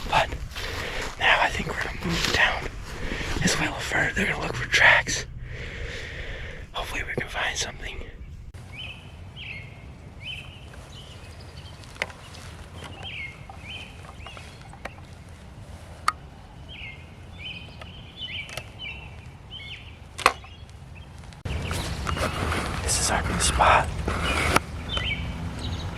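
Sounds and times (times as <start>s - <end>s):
songbird chirping: 0.0s - 25.9s.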